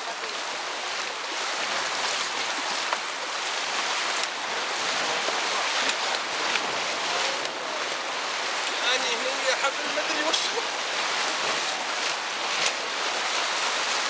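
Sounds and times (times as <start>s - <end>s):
faint splashes: 0.0s - 14.0s
rushing whitewater: 0.0s - 14.0s.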